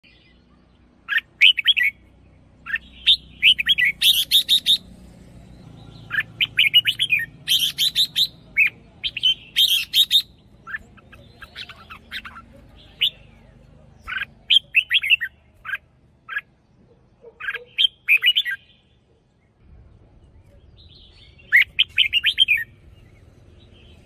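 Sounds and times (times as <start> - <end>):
bird singing: 0.0 - 24.0.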